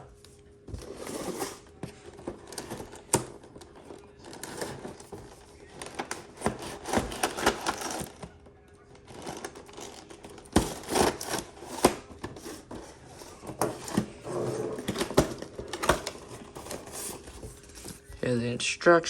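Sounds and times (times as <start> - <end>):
cardboard packaging rustling: 0.0 - 18.2.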